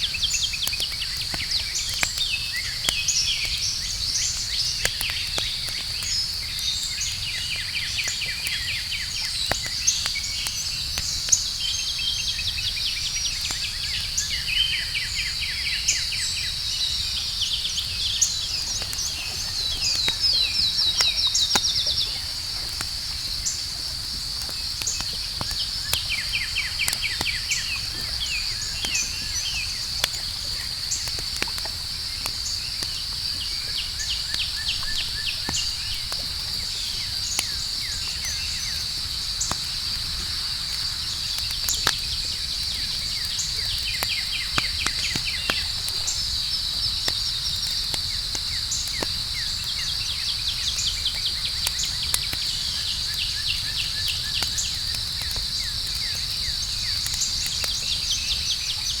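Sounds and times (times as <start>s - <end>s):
campfire crackling and popping: 0.0s - 59.0s
crickets droning: 0.0s - 59.0s.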